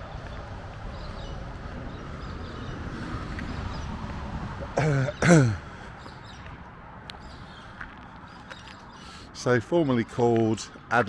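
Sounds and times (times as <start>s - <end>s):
freeway traffic rumble: 0.0s - 11.0s.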